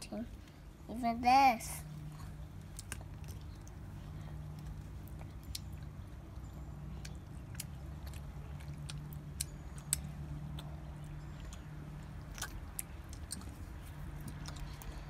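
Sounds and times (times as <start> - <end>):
steady low hum: 0.0 - 15.0
children chewing chocolate shells: 1.6 - 15.0.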